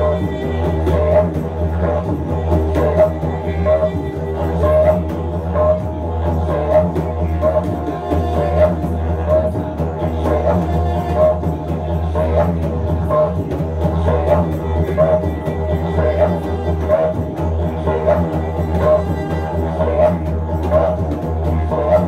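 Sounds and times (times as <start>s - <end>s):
didgeridoo drone: 0.0s - 22.0s
hand-drum strokes: 0.0s - 22.0s
saxophone: 0.0s - 22.0s.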